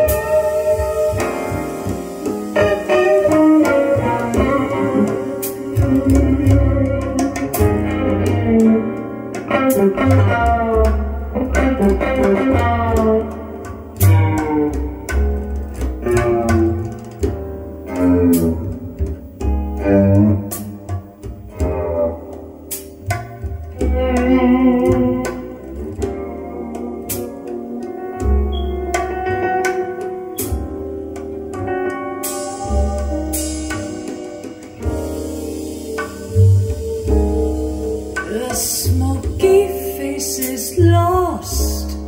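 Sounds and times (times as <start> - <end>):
jazz guitar solo: 0.0 - 42.0
light drums: 0.0 - 42.0.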